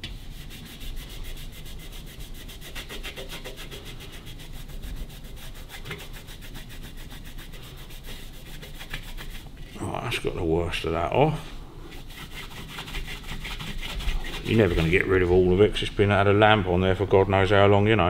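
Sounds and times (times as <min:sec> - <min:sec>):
cloth scrubbing metal: 0:00.0 - 0:16.2.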